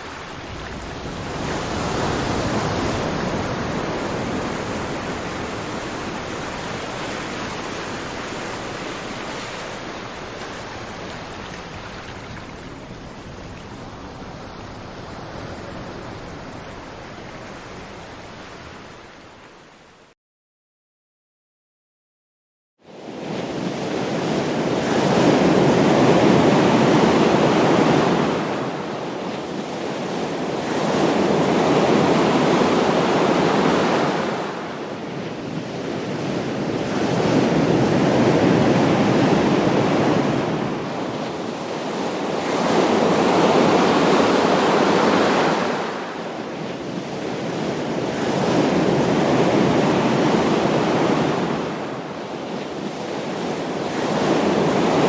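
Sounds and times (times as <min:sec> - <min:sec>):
ocean waves breaking: 0:00.0 - 0:19.6, 0:22.9 - 0:55.0.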